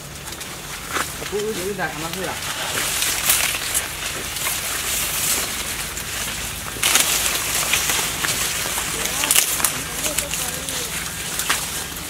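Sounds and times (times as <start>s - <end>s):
cornstalk leaves rustling: 0.0s - 12.0s.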